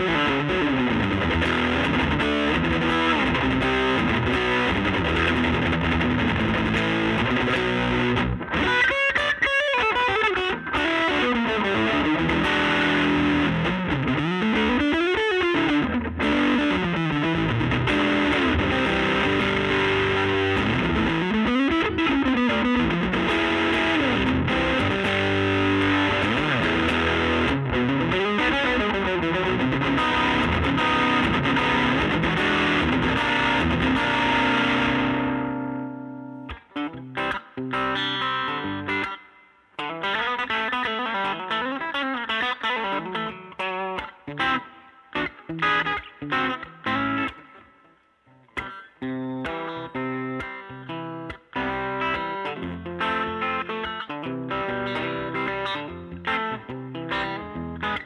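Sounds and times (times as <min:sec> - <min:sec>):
distorted electric guitar riffs: 0:00.0 - 0:58.0.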